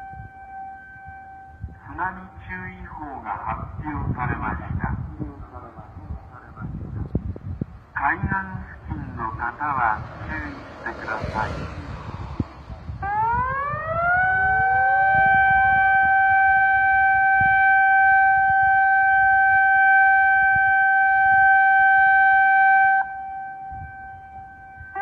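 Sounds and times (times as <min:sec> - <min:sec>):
warning siren wailing: 0:00.0 - 0:05.0, 0:09.4 - 0:25.0.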